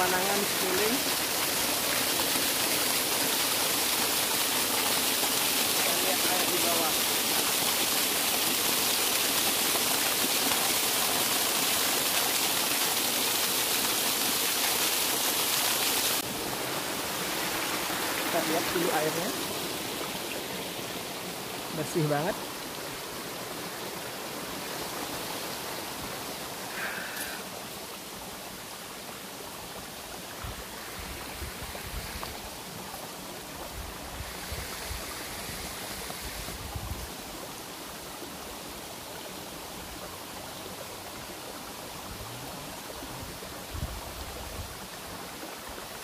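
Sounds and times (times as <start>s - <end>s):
stream rippling over rocks: 0.0s - 46.0s.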